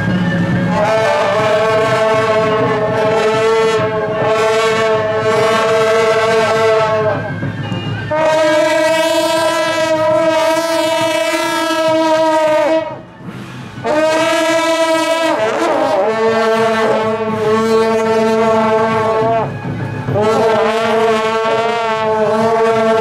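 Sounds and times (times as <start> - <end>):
brass horns blowing long blasts: 0.0 - 23.0.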